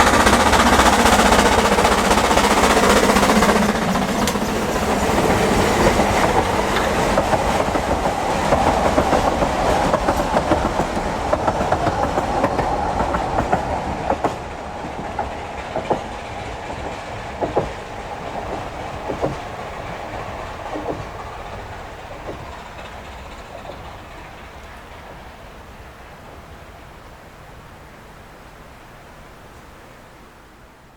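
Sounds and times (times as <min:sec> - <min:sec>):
train wheels clicking over rail joints: 0:00.0 - 0:25.9
train carriages rumbling: 0:00.0 - 0:26.9.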